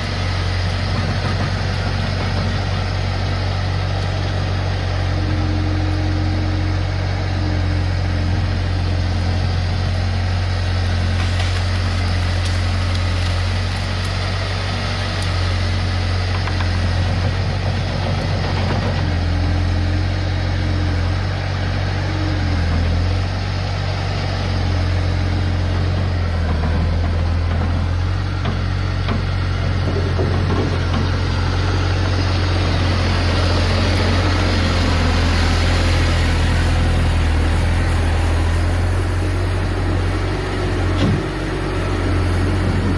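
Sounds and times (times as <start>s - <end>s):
loader diesel engine running: 0.0s - 42.9s.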